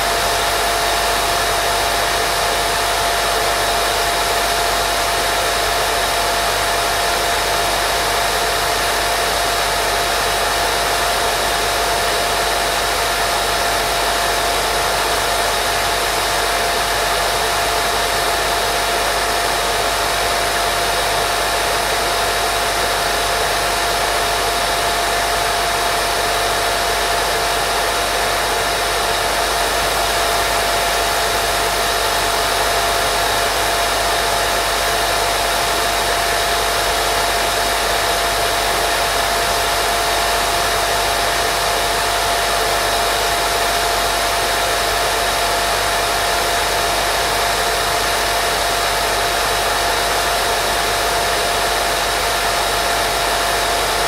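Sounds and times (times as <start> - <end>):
loud white noise: 0.0 - 54.0.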